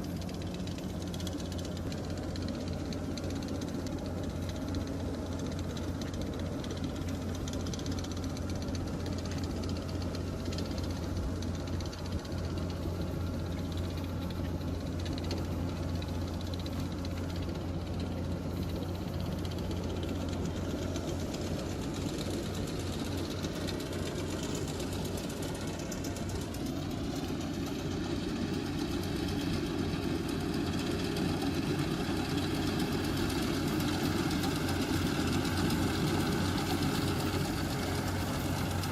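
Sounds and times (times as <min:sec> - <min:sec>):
harvesting machine engine running: 0:00.0 - 0:38.9.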